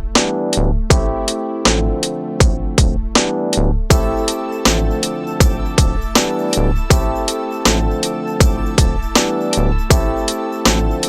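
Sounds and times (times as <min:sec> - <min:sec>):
electronic beat with drums: 0:00.0 - 0:11.0
sustained keyboard chords: 0:00.0 - 0:11.0.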